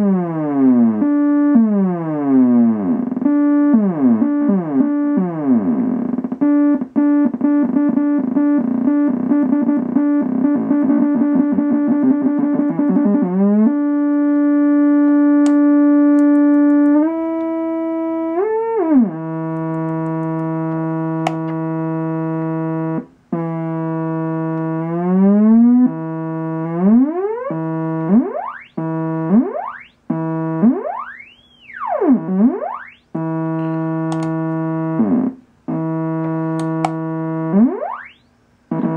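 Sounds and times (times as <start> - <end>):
buzzy synthesizer tone: 0.0 - 38.9.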